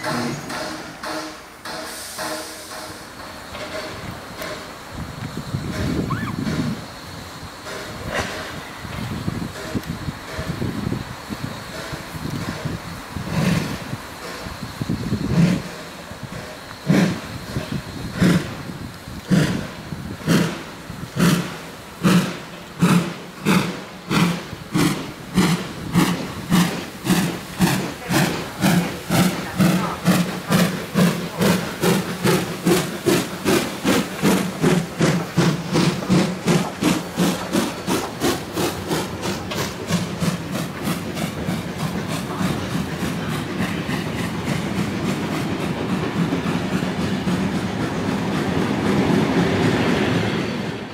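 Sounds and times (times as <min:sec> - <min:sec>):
steam locomotive chuffing: 0:00.0 - 0:50.9
train wagons rolling: 0:00.0 - 0:50.9.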